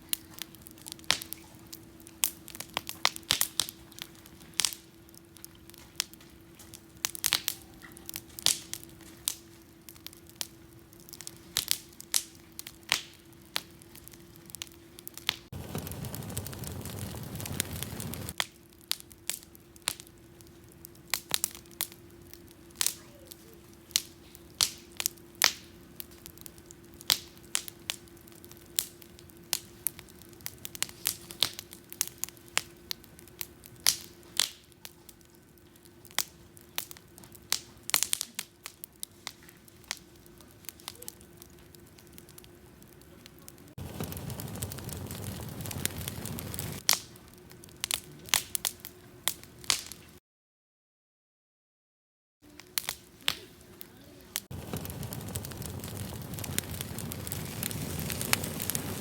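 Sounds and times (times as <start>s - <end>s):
campfire crackling and popping: 0.0s - 50.2s, 52.4s - 59.0s.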